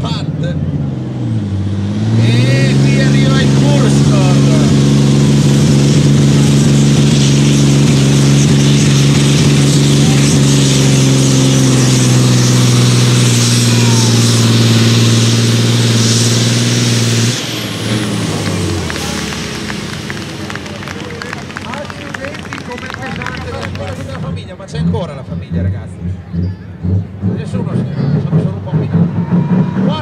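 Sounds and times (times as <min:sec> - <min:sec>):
truck diesel engine under load: 0:00.0 - 0:30.0.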